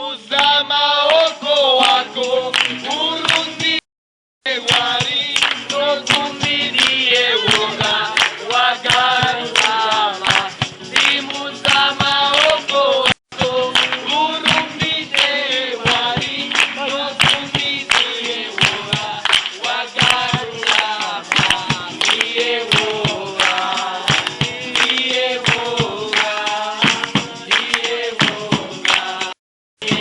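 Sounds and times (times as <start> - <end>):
group singing in chorus: 0.0 - 3.8, 4.5 - 30.0
hand clapping to a beat: 0.3 - 3.9, 4.5 - 30.0.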